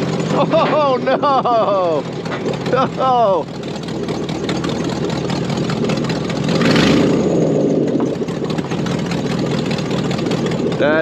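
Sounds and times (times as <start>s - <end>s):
truck engine running rough: 0.0s - 11.0s.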